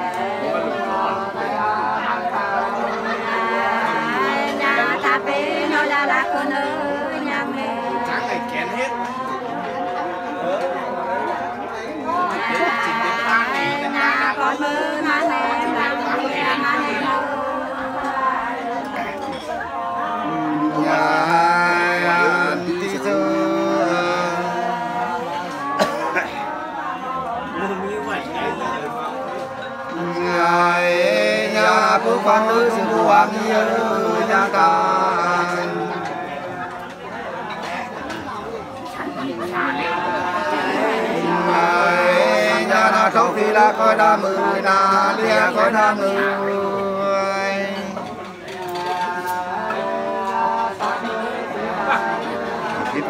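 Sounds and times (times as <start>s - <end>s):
men singing unaccompanied: 0.0s - 53.0s.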